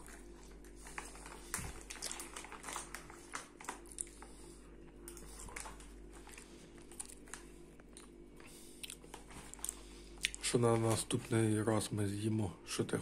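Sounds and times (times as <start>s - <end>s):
plastic bag crinkling: 0.0s - 4.5s, 5.1s - 8.2s, 9.0s - 11.9s
popcorn crunching: 0.0s - 11.8s.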